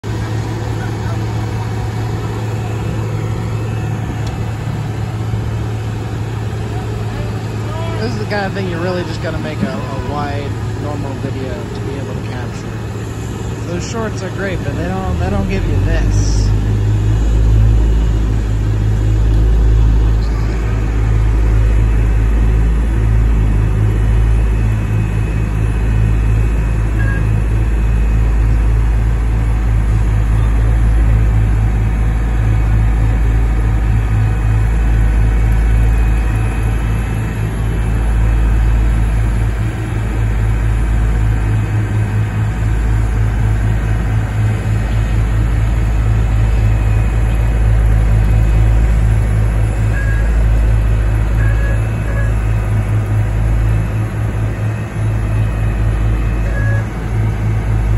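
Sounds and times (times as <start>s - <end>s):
diesel engines rumbling: 0.0s - 57.9s.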